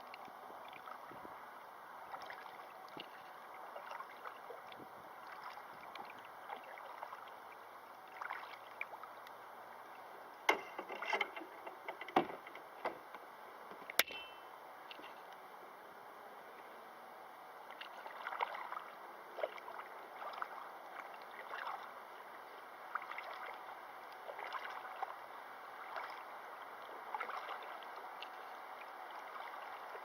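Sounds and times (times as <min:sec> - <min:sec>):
river water running: 0:00.0 - 0:30.0.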